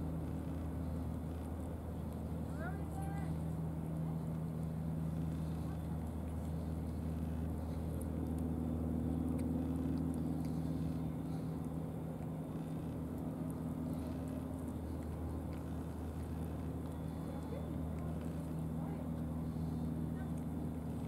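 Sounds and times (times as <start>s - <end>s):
low engine drone: 0.0s - 21.0s.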